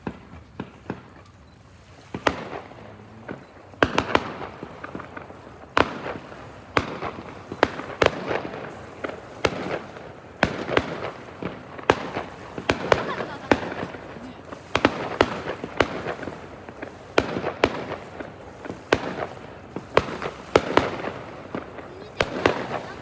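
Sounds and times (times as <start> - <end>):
fireworks crackling: 0.0 - 23.0
fireworks shells bursting: 0.0 - 23.0.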